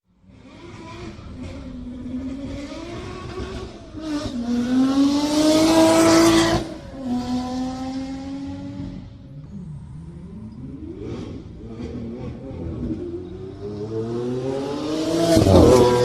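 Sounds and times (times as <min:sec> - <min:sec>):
sports car engine accelerating: 0:00.2 - 0:16.0.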